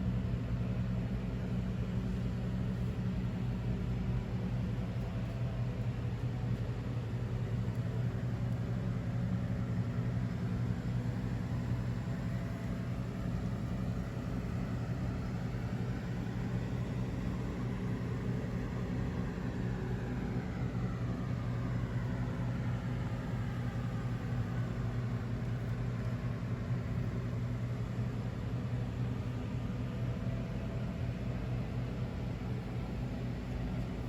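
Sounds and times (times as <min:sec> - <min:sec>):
faint high turbo whine: 0:00.0 - 0:34.0.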